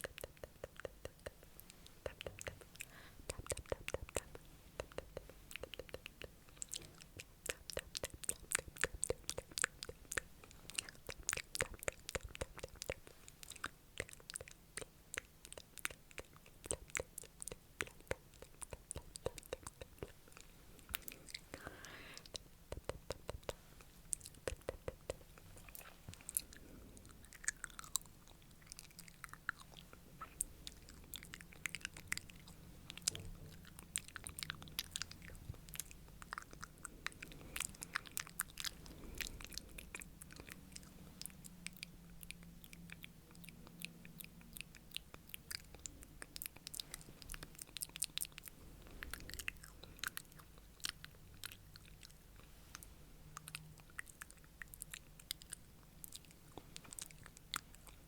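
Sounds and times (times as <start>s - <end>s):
wet mouth clicks and lip smacks: 0.0s - 58.0s.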